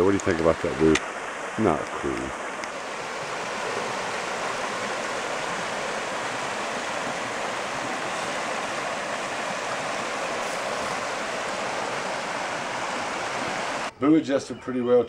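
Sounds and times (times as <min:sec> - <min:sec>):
stream flowing over pebbles: 0:00.0 - 0:13.9.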